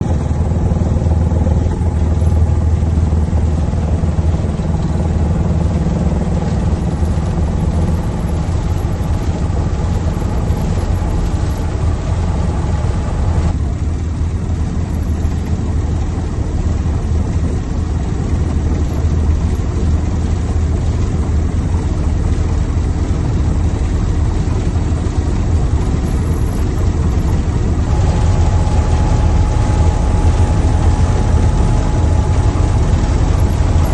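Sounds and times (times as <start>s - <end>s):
helicopter engines and rotor: 0.0s - 33.9s
steady higher whine: 0.0s - 33.9s.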